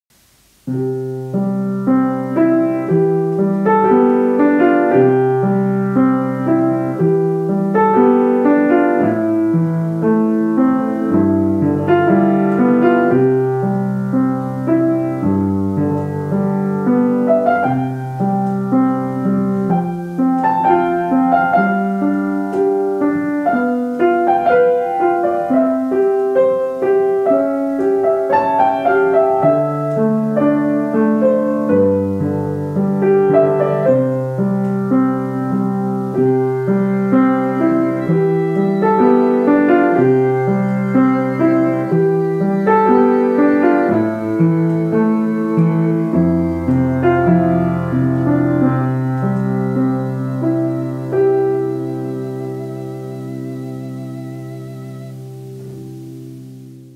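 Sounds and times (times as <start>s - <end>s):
piano music: 0.1s - 56.9s.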